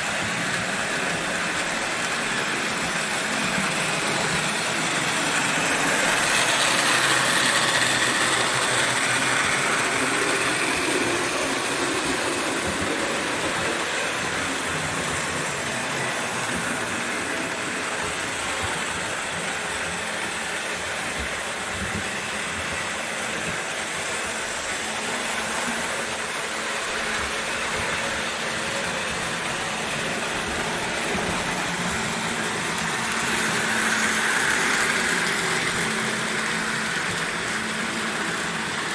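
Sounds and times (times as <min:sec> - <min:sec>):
toy train motor whirring: 0:00.0 - 0:38.9.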